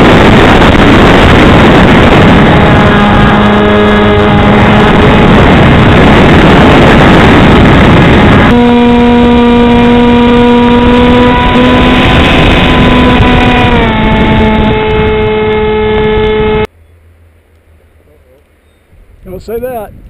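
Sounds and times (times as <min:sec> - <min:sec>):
wind buffeting microphone: 0:00.0 - 0:16.7, 0:18.8 - 0:20.0
electric motor and propeller hum: 0:00.0 - 0:19.2.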